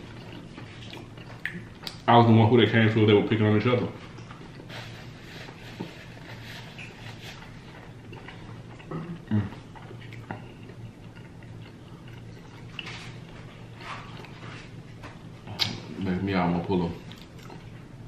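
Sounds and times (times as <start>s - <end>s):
chewing crunches: 0.0s - 2.1s, 4.1s - 15.9s, 17.0s - 17.9s
low steady hum: 0.0s - 18.0s.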